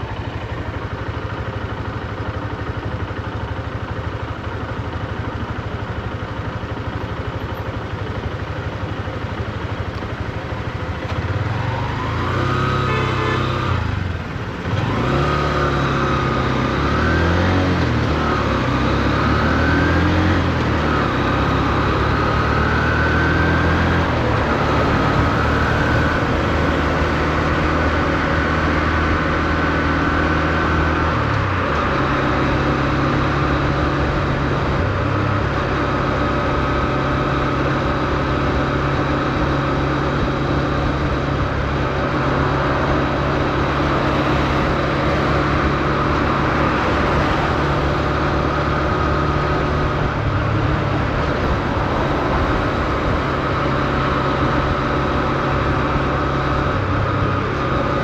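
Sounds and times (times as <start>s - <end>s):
motorcycle engine running at low revs: 0.0s - 58.0s.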